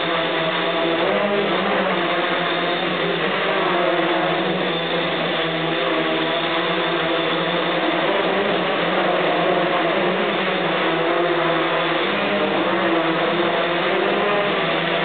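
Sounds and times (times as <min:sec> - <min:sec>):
drone motors whirring: 0:00.0 - 0:15.0.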